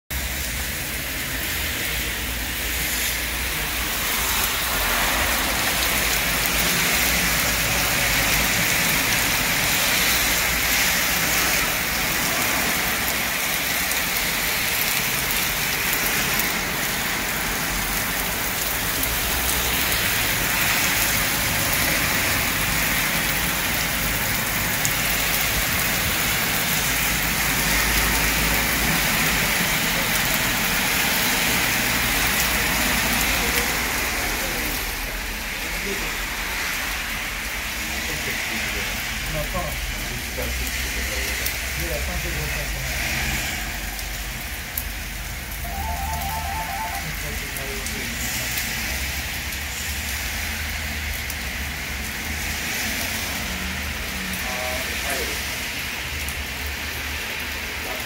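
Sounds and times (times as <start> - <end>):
heavy rain on paving: 0.1 - 58.0.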